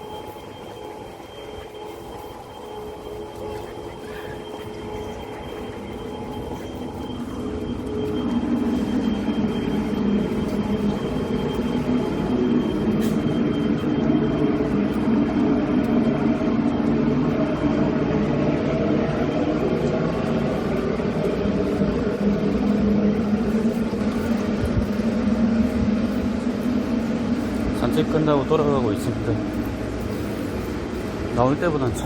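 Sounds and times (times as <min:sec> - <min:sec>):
machinery drone: 0:00.0 - 0:32.0.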